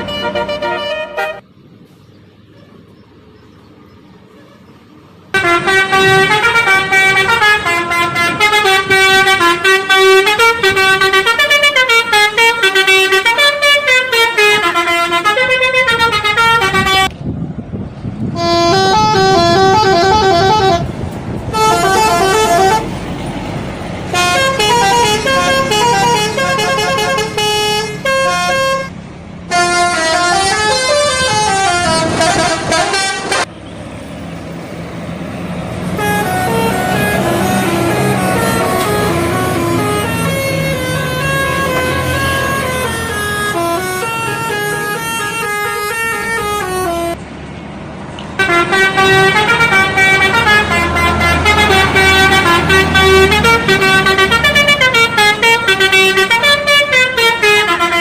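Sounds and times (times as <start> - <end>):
musical bus horn melody: 0.0 - 1.4, 5.3 - 17.2, 18.2 - 23.2, 24.0 - 33.5, 35.8 - 47.2, 48.4 - 58.0.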